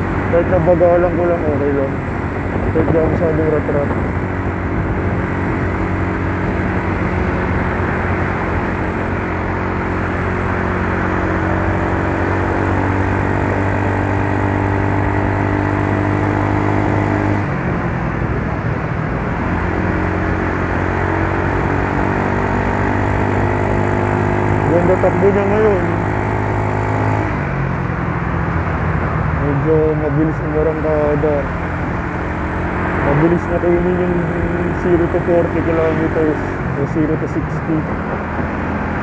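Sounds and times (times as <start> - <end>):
scooter engine running: 0.0 - 39.0
wind and road noise: 0.0 - 39.0.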